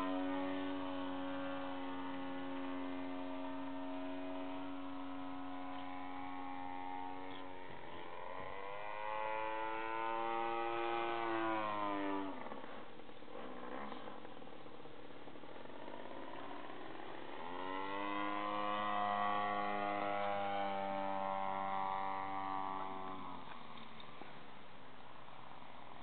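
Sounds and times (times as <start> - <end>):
model plane engine running: 0.0 - 26.0.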